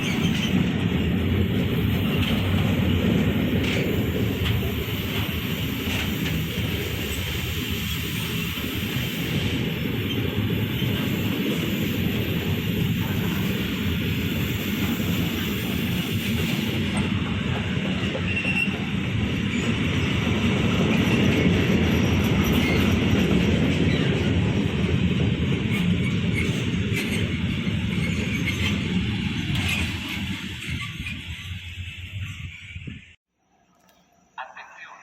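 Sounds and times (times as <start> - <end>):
train wheels rumbling on rails: 0.0 - 33.2.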